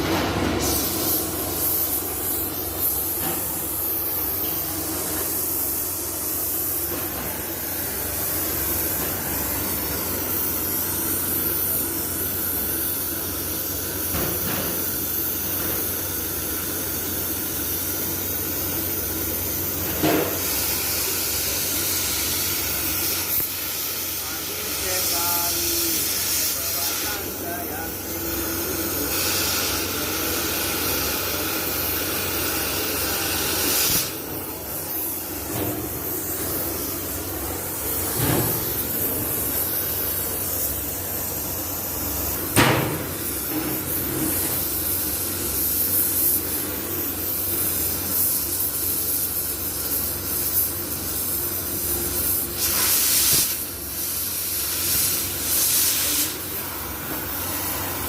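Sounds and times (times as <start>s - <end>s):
welding hiss and crackle: 0.0s - 58.0s.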